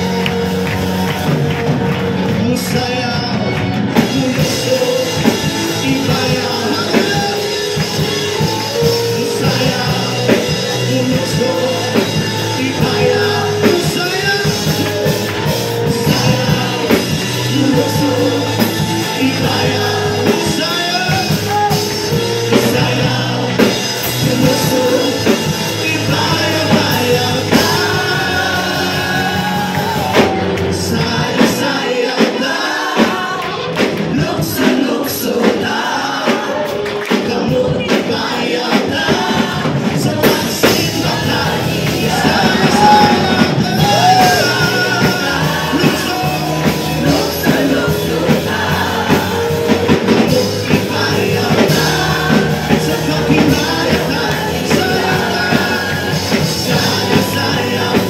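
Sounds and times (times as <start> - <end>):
drums striking: 0.0 - 58.0
upbeat worship song with band: 0.0 - 58.0.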